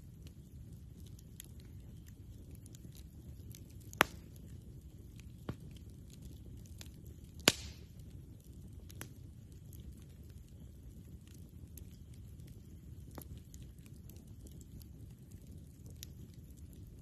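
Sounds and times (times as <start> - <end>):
campfire crackling: 0.0 - 17.0
sharp pops of fire: 0.1 - 17.0.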